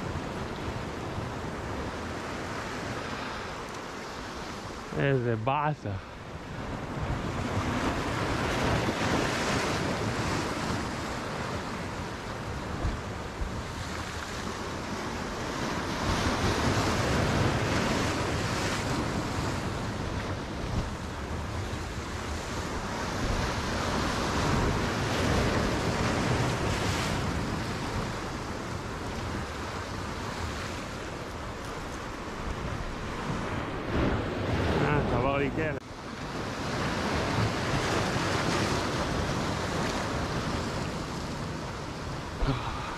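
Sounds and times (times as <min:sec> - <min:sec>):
waves breaking over rocks: 0:00.0 - 0:42.9.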